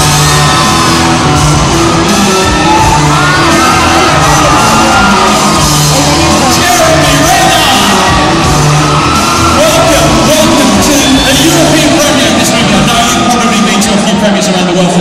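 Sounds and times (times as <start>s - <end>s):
crowd screaming and cheering: 0.0s - 15.0s
loud music over pa system: 0.0s - 15.0s.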